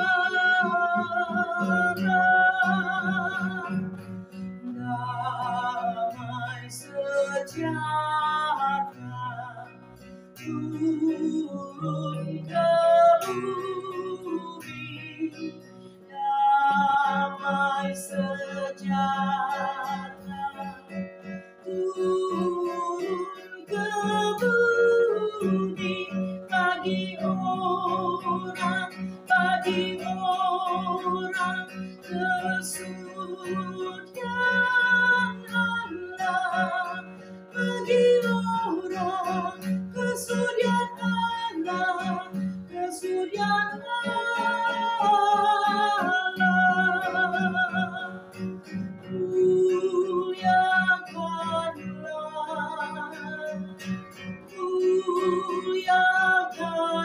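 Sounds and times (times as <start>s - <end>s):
acoustic guitar chords: 0.0s - 57.0s
woman singing: 0.0s - 57.0s.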